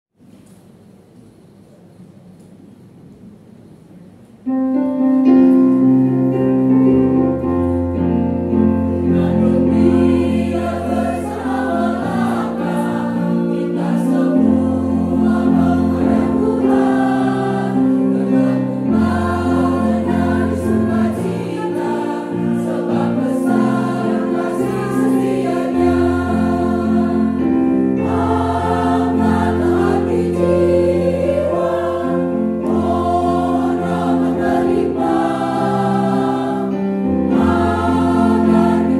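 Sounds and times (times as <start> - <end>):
keyboard accompaniment: 4.4 - 38.9
women's choir singing a hymn: 6.2 - 38.9.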